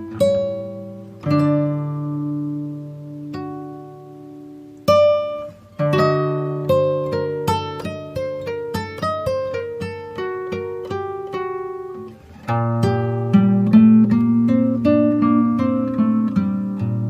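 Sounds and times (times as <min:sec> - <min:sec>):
plucked acoustic guitar tune: 0:00.0 - 0:17.0.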